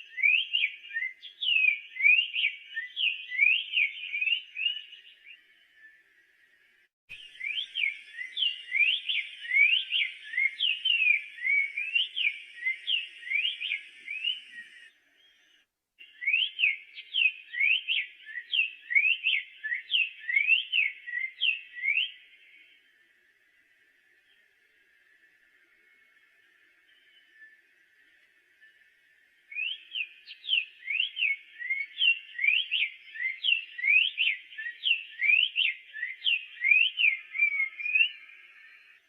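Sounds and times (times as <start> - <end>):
bird whistling song: 0.0 - 6.0, 7.1 - 23.0, 26.7 - 39.0.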